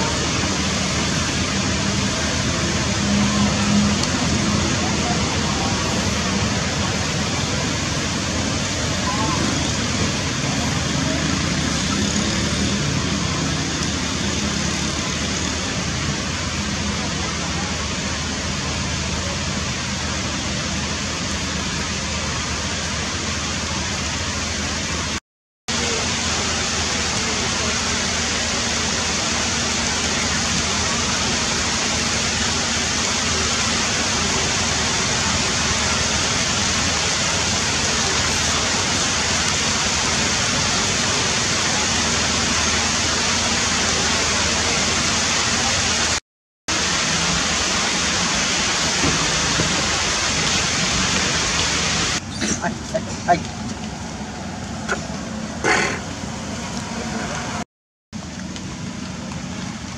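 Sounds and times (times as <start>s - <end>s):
loud rushing hiss: 0.0s - 56.3s.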